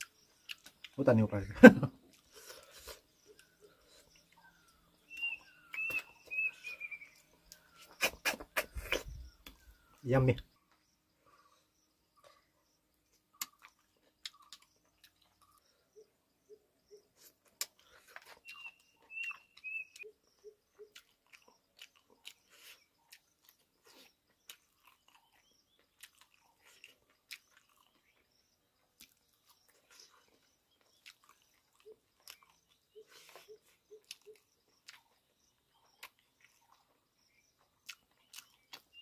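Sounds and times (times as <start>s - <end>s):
person chewing and crunching food: 0.0s - 1.2s, 1.8s - 10.0s, 11.3s - 16.1s, 16.8s - 39.0s.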